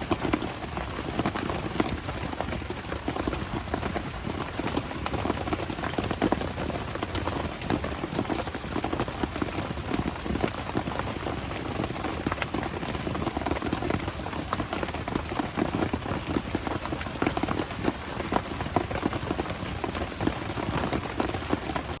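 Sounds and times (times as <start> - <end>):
rain falling on a surface: 0.0 - 22.0.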